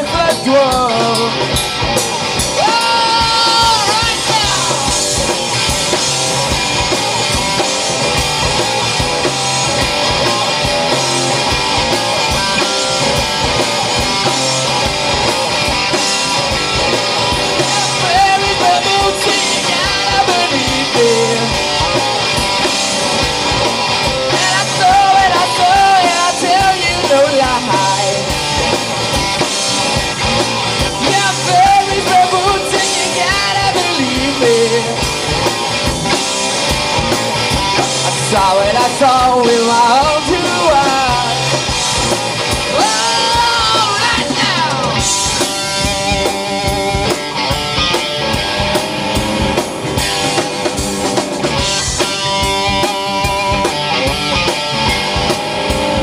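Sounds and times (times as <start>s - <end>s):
live rock band playing: 0.0s - 56.0s
wavering lead guitar line: 0.0s - 56.0s.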